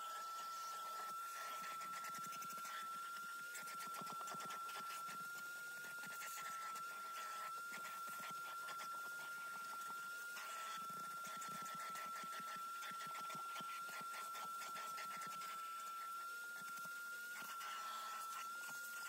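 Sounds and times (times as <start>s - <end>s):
vacuum cleaner whining: 0.0s - 19.0s.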